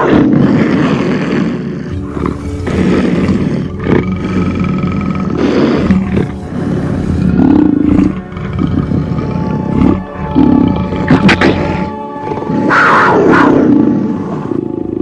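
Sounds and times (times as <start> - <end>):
big cat roaring: 0.0 - 15.0
background music: 1.9 - 15.0.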